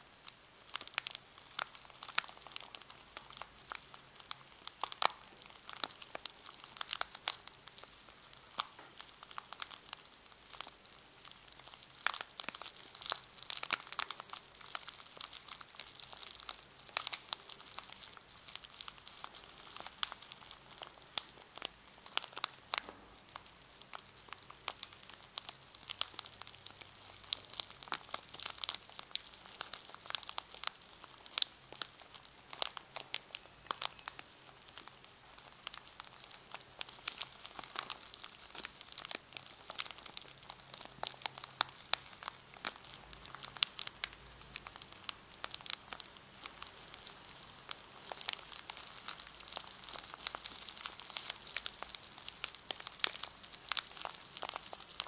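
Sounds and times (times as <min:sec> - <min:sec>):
packaging crinkling: 0:00.7 - 0:55.0.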